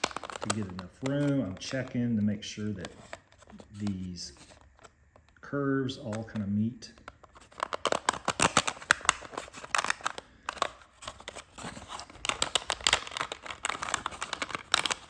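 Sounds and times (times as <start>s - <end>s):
plastic strips crackling and clicking: 0.0s - 5.4s, 7.0s - 15.0s.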